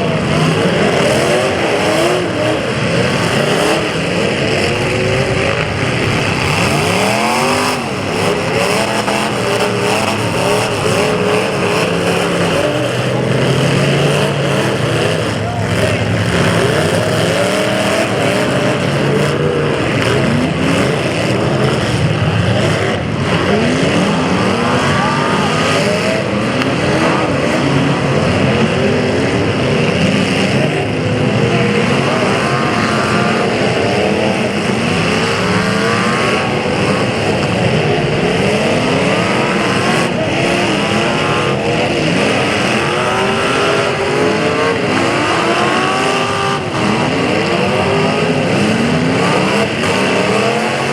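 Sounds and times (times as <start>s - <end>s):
car engines revving: 0.0s - 50.9s.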